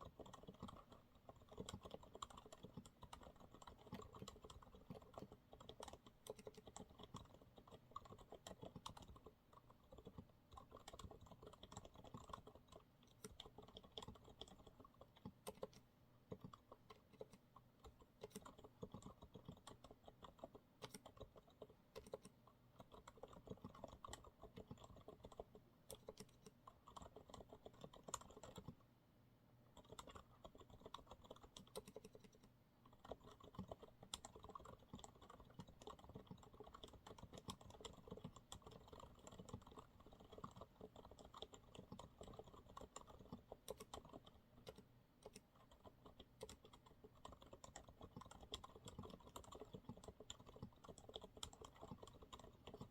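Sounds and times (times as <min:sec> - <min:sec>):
soft keyboard typing: 0:00.0 - 0:28.9, 0:29.6 - 0:52.9.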